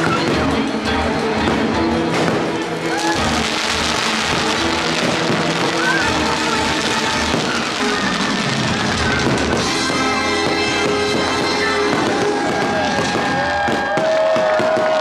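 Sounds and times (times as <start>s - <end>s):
music soundtrack: 0.0s - 14.0s
fireworks bursting: 1.4s - 15.0s.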